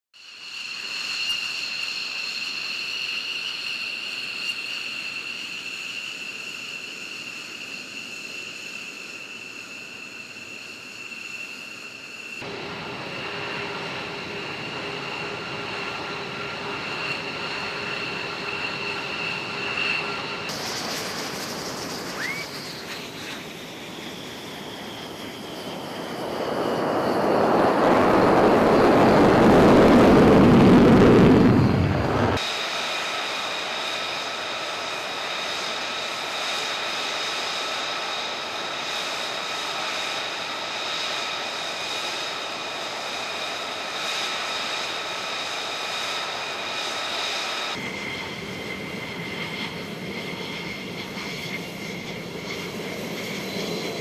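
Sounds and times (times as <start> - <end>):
jet engines whining: 0.2 - 54.0
jet takeoff roar: 0.6 - 54.0.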